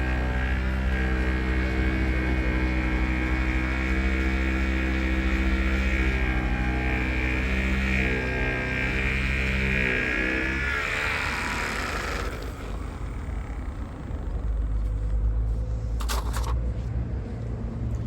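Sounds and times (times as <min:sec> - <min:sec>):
electric polisher whining: 0:00.0 - 0:14.9.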